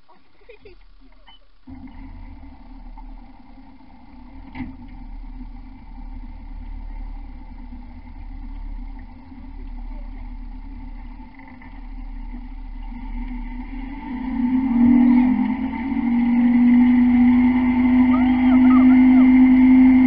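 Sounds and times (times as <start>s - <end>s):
motorboat engine humming: 0.0s - 20.0s.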